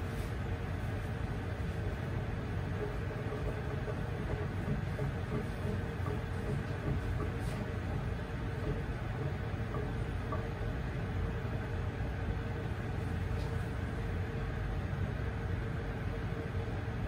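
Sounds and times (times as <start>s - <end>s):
gas burner flame rumbling: 0.0s - 17.0s.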